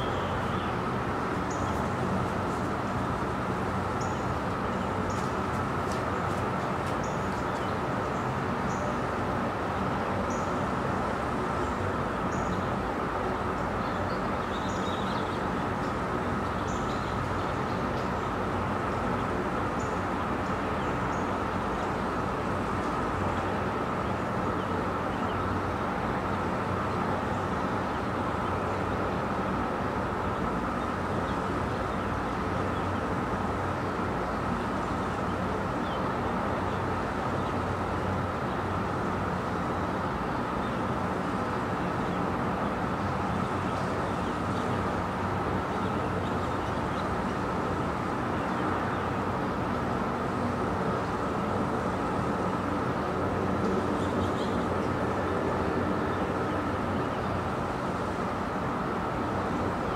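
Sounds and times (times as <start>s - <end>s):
distant traffic hum: 0.0s - 59.9s.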